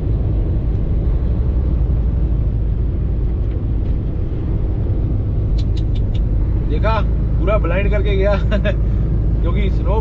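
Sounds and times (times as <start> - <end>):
truck engine and tyres rumbling: 0.0 - 10.0.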